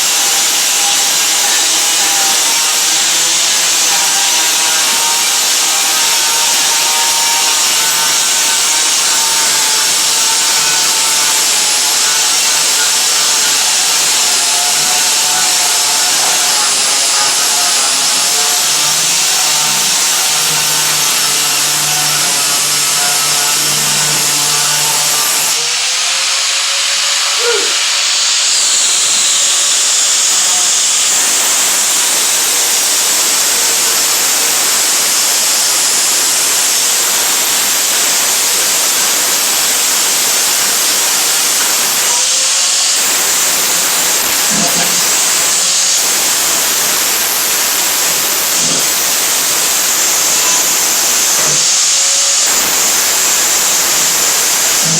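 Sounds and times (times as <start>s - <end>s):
grinder grinding metal: 0.0s - 54.9s.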